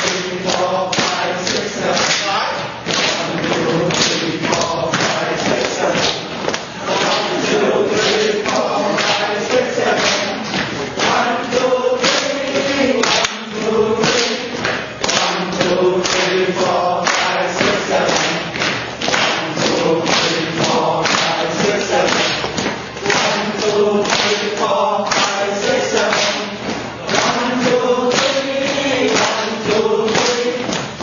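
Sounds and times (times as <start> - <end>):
people clapping in rhythm: 0.0 - 31.0
voices chanting together: 0.0 - 31.0.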